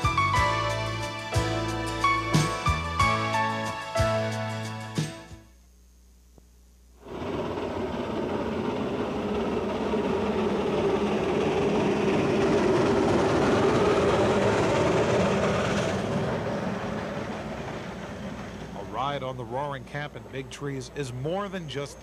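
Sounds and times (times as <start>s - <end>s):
steam locomotive running: 0.0s - 3.8s, 7.0s - 22.0s.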